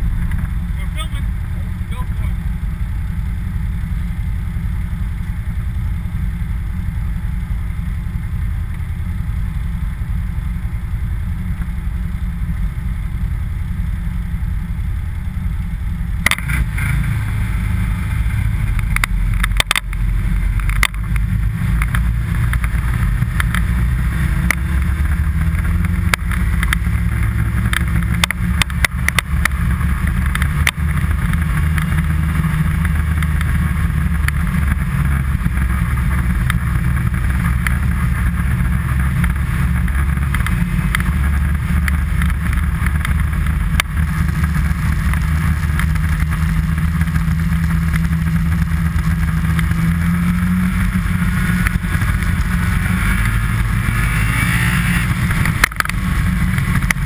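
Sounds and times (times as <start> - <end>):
low rumble: 0.0 - 57.0
sled crackling and scraping on snow: 0.0 - 57.0.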